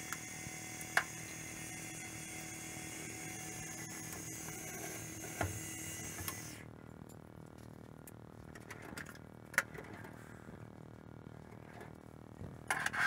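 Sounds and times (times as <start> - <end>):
machine hum and whine: 0.0 - 13.0.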